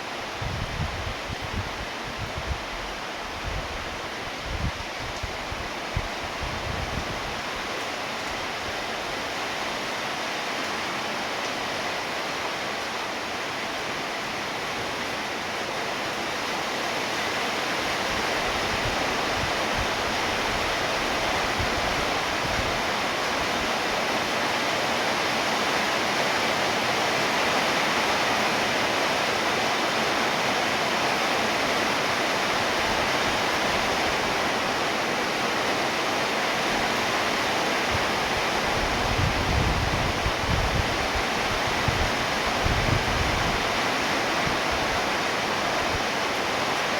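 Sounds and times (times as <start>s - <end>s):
heavy rainfall: 0.0s - 46.9s.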